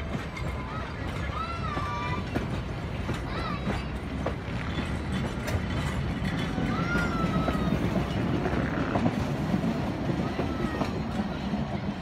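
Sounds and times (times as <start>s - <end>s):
clicks and knocks of carriages: 0.0s - 12.0s
train wheels rumbling on rail: 0.0s - 12.0s.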